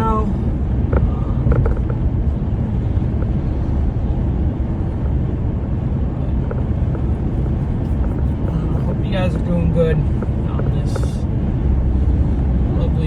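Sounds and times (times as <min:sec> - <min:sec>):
car driving on highway: 0:00.0 - 0:13.0.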